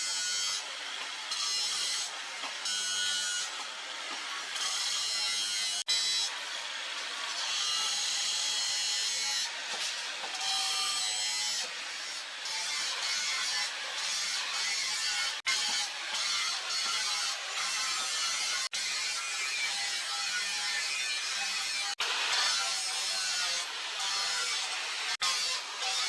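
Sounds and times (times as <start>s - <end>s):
workshop tool scraping and grinding: 0.0s - 26.0s.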